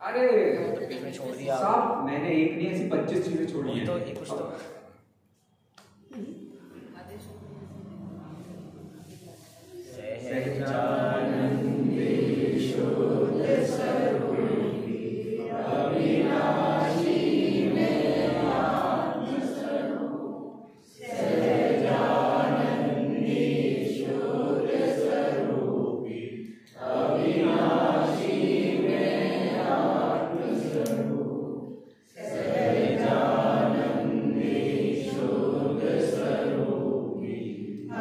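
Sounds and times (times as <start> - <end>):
group of voices chanting: 7.2 - 38.0.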